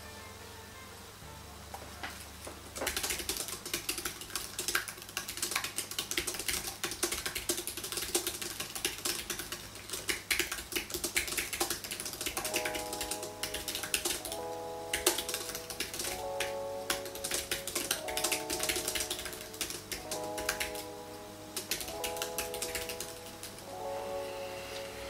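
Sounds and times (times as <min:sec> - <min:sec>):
fast typing on keyboard: 0:02.8 - 0:21.0, 0:21.6 - 0:23.7.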